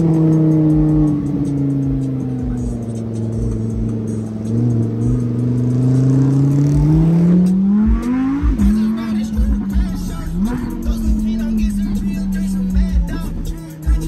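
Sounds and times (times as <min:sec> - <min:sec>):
gear shift pitch drop: 0:00.0 - 0:14.0
sports car engine revving: 0:00.0 - 0:14.0.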